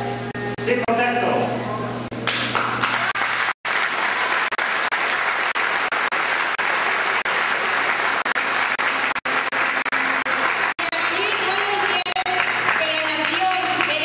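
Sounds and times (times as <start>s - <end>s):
audience applauding: 2.2s - 14.0s.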